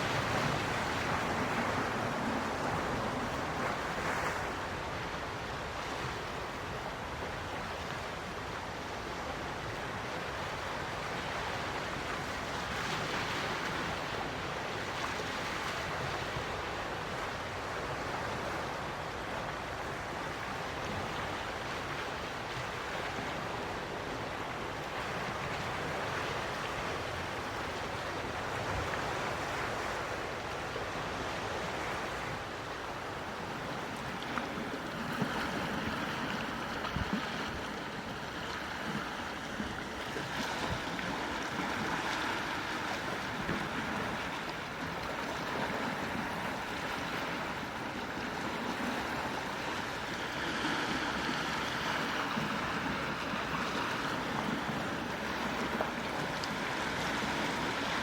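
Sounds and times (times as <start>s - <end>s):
sea waves washing onto shore: 0.0s - 58.0s.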